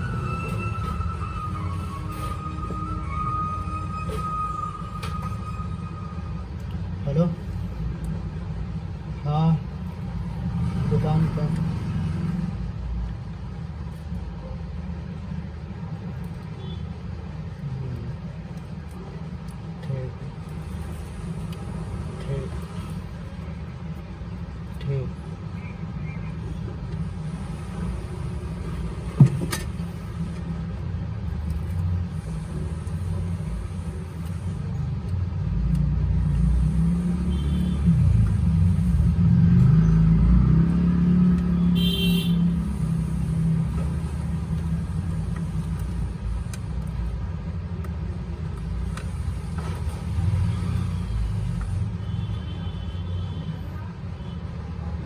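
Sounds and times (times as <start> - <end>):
vehicle engine rumble: 0.0 - 55.0.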